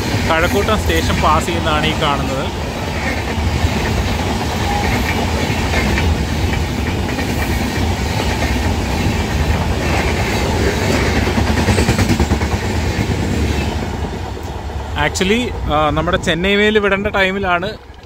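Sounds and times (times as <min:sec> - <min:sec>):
clickety-clack over rail joints: 0:00.0 - 0:18.0
train wheels rumbling on rail: 0:00.0 - 0:18.0.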